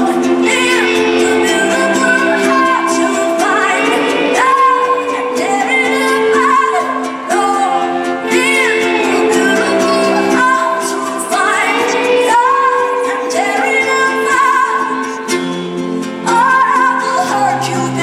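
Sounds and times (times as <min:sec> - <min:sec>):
sustained backing chords: 0:00.0 - 0:18.0
woman singing: 0:00.0 - 0:18.0.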